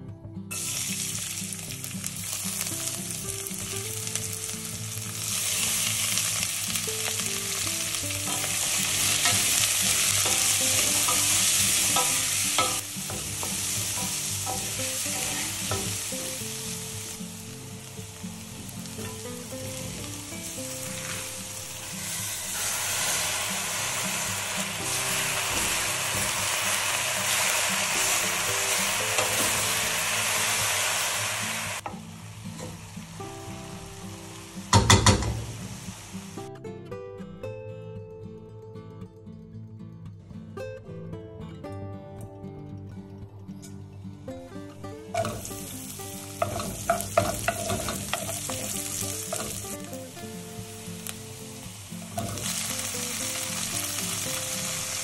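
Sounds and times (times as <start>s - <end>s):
garlic and onions sizzling in oil: 0.5s - 36.5s, 45.1s - 55.0s.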